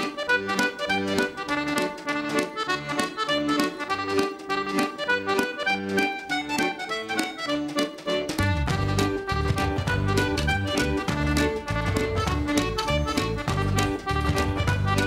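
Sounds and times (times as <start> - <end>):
lively accordion tune: 0.0 - 15.0
bouncing bass: 0.4 - 15.0.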